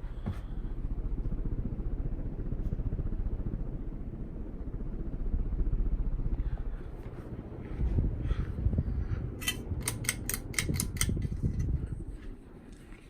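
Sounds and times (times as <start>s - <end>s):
ceiling fan whirring: 0.0s - 13.0s.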